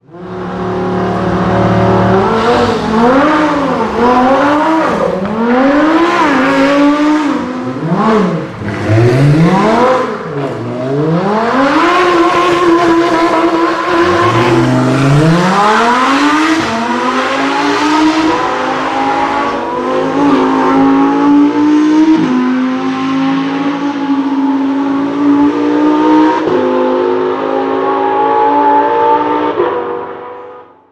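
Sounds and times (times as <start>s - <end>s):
sports car engine revving: 0.0s - 26.6s.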